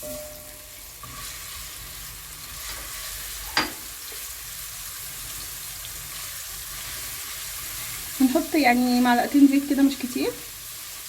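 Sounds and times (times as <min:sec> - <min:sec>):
garlic sizzling in a frying pan: 0:00.0 - 0:11.0.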